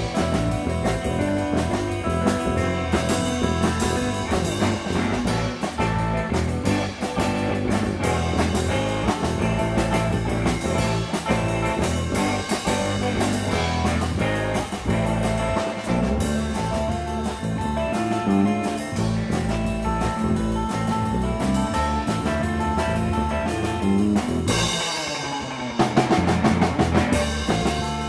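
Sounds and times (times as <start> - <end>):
drum and cymbal hits: 0.0 - 28.0
rock band playing: 0.0 - 28.0.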